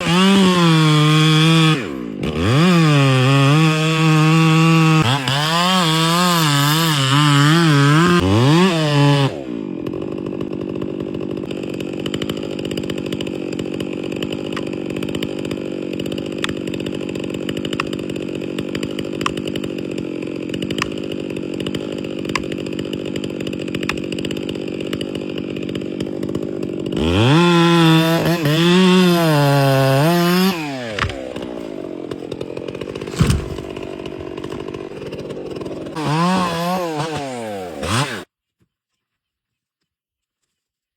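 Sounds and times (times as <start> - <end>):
chainsaw engine revving: 0.0 - 38.3.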